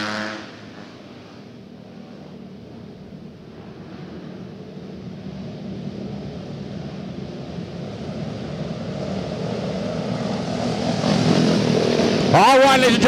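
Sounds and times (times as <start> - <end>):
kart engines running: 0.0 - 13.0.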